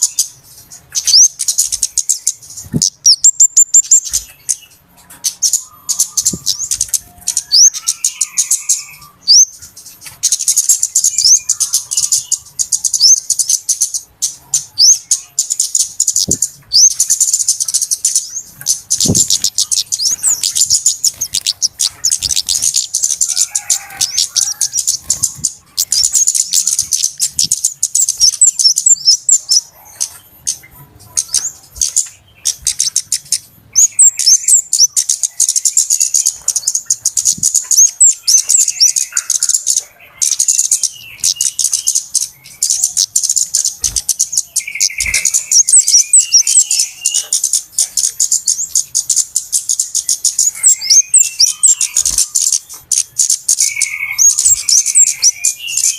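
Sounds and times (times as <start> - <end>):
birds chipping and ticking: 0.0 - 55.9
low bird twittering: 0.0 - 55.9.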